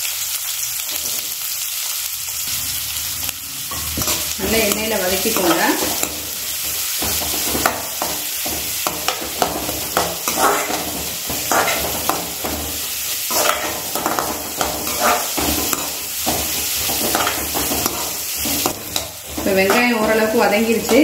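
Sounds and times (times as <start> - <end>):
onions sizzling in hot oil: 0.0 - 21.0
metal spoon scraping pan: 3.6 - 21.0.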